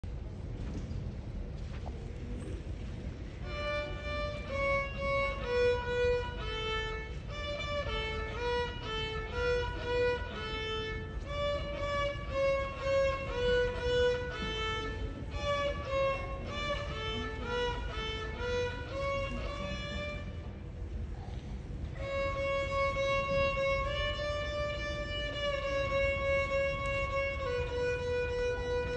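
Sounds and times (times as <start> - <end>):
solo violin tune: 3.4 - 20.9, 21.8 - 28.9.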